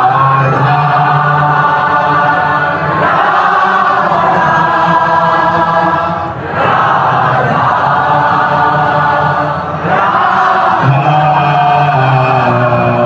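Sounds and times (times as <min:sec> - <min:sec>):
group of voices chanting: 0:00.0 - 0:13.0.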